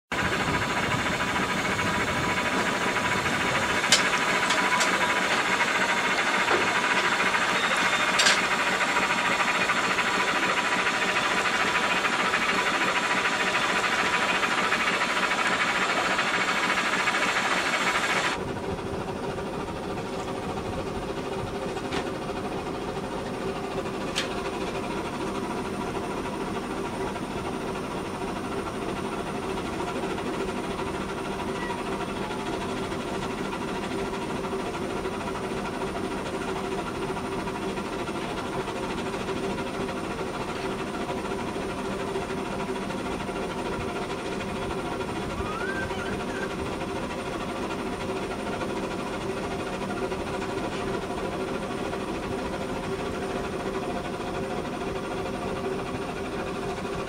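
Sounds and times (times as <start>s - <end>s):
steam yacht running: 0.1s - 57.0s.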